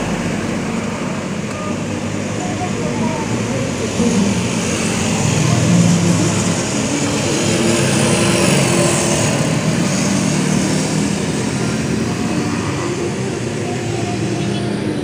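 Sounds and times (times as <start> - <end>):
motorcycles passing: 0.0 - 15.0
road and traffic noise: 0.0 - 15.0.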